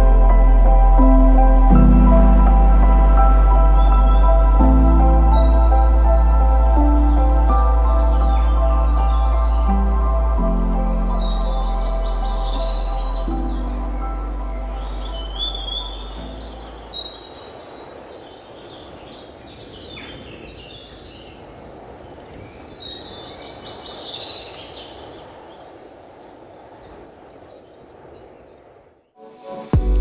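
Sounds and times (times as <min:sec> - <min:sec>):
outdoor background hiss: 0:00.0 - 0:30.0
birds chirping and singing: 0:03.2 - 0:28.3.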